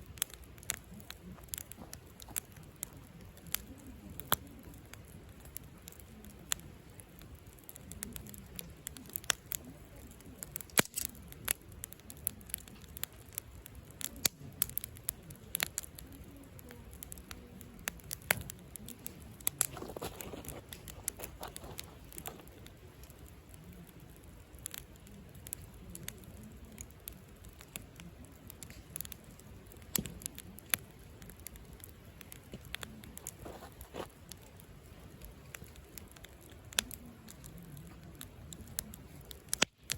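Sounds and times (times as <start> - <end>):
campfire crackling and popping: 0.0 - 39.9
low rush of flame: 0.0 - 39.9.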